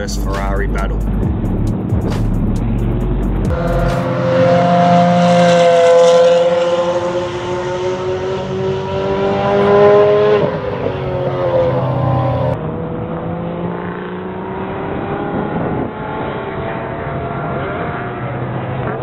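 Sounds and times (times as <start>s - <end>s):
racing car engine accelerating: 0.0s - 19.0s.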